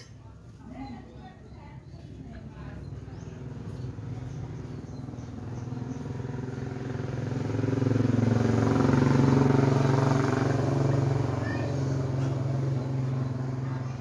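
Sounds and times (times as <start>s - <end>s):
vehicle engine running: 0.4s - 14.0s.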